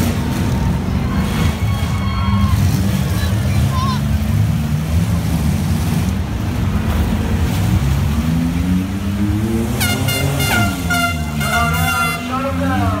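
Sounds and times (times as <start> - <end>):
car engines running loud: 0.0 - 13.0
engine revving: 2.4 - 13.0.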